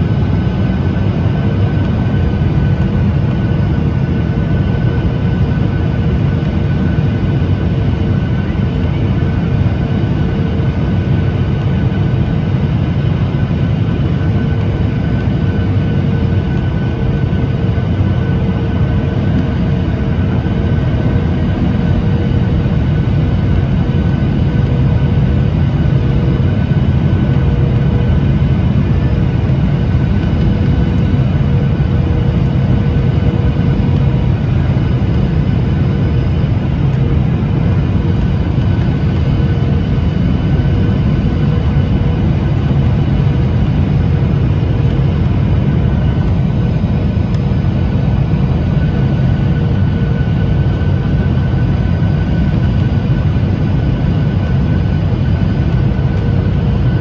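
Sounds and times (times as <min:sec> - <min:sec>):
airplane cabin rumble: 0:00.0 - 0:57.0
steady humming tones: 0:00.0 - 0:57.0.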